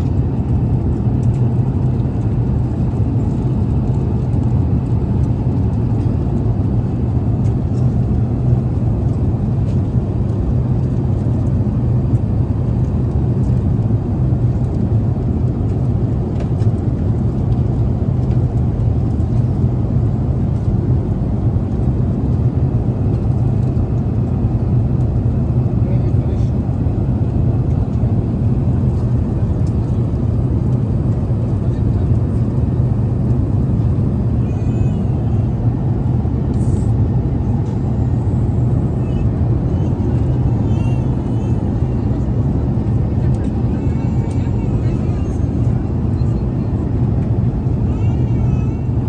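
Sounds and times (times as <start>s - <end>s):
airliner cabin engine rumble: 0.0s - 49.0s.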